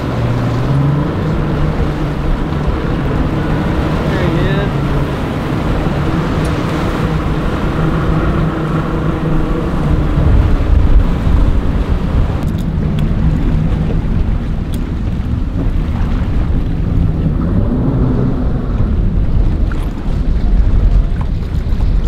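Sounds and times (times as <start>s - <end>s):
outboard motors running: 0.0s - 22.0s
wind buffeting microphone: 0.0s - 22.0s.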